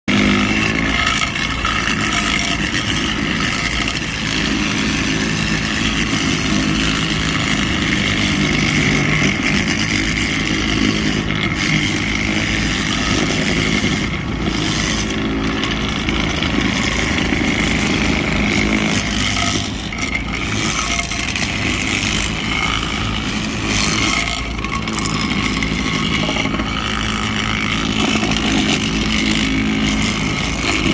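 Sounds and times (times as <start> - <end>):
railway tamping machine engines: 0.1 - 30.9.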